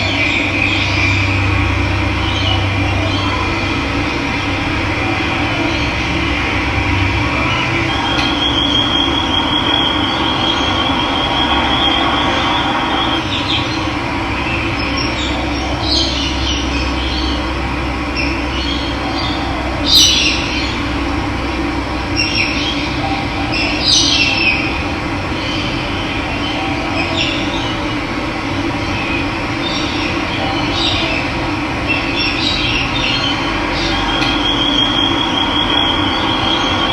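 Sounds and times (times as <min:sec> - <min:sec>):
birds calling: 0:00.0 - 0:36.9.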